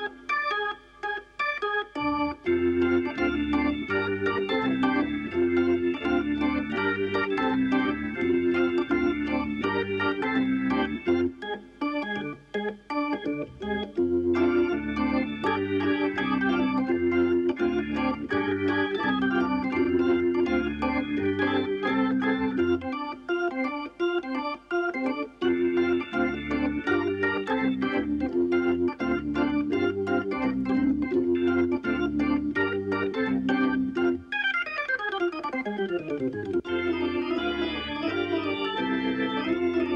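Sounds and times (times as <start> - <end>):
organ bass line: 0.0 - 39.9
organ tune: 0.0 - 39.9.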